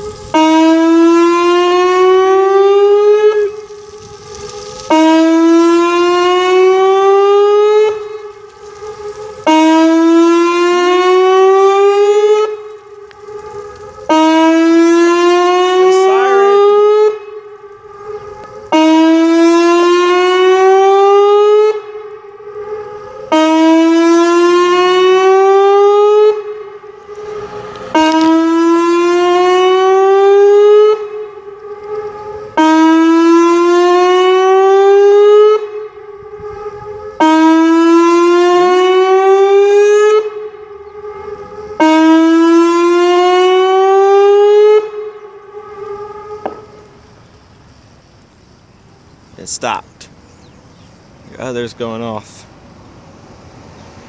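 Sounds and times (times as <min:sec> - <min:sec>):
warning siren rising tone: 0:00.0 - 0:47.2
faint steady siren tone: 0:00.0 - 0:52.1.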